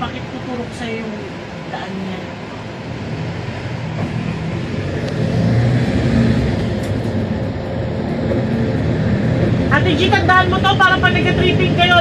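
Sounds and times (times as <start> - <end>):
car engine hum: 0.0 - 12.0
road noise rush: 0.0 - 12.0.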